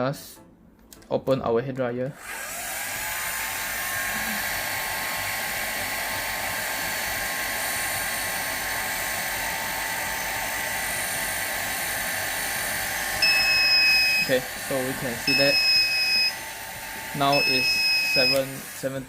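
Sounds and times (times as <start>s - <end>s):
hair dryer running: 2.1s - 19.0s.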